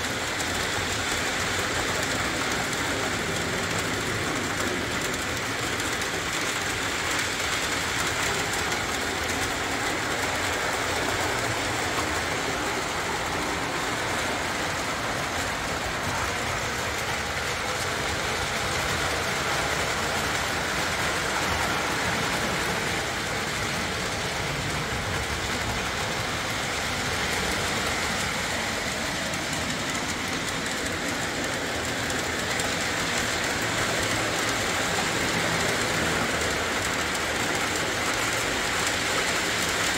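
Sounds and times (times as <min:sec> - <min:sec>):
clicking over rail joints: 0:00.0 - 0:39.9
model train rolling hiss: 0:00.0 - 0:39.9.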